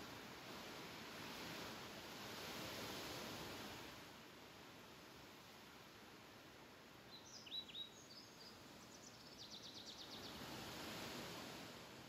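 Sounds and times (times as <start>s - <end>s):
wind rustling through grass: 0.0s - 7.6s, 8.4s - 12.0s.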